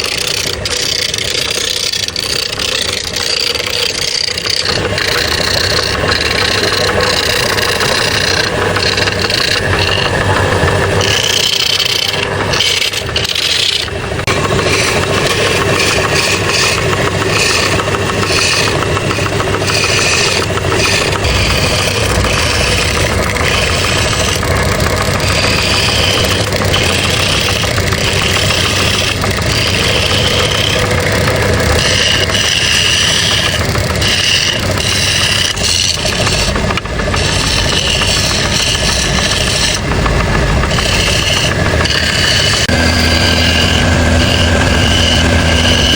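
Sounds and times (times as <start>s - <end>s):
power tool motor running: 0.0s - 45.9s
power tool whine: 0.0s - 45.9s.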